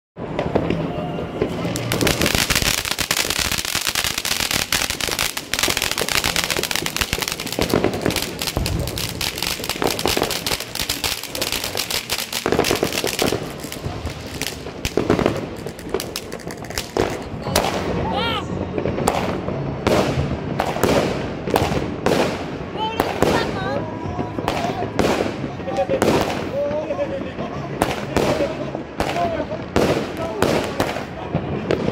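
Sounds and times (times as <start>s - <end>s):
fireworks crackling and banging: 0.2s - 31.9s.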